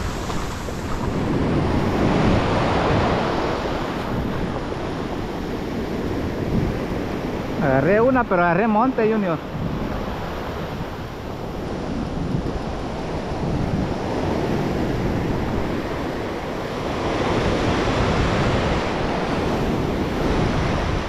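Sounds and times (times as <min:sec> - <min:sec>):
ocean surf washing: 0:00.0 - 0:21.0
wind buffeting microphone: 0:00.0 - 0:21.0.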